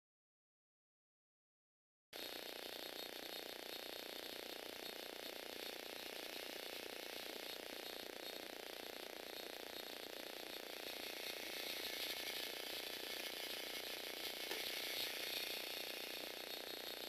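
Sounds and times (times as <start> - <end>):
toy motor whirring gears clattering: 2.2 - 17.0.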